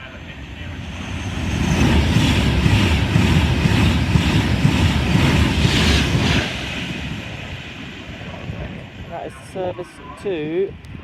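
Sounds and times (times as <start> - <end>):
train passing at speed: 0.0 - 10.8.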